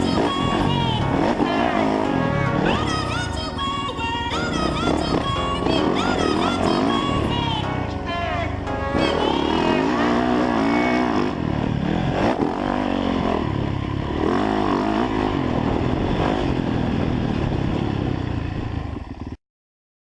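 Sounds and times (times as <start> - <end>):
motocross bike engine revving: 0.0 - 19.4.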